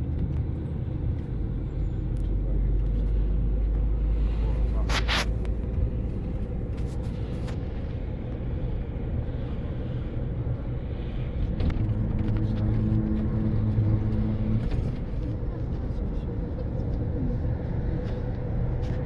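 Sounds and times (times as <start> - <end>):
car road and engine rumble: 0.0 - 19.0
low engine hum: 0.0 - 19.0.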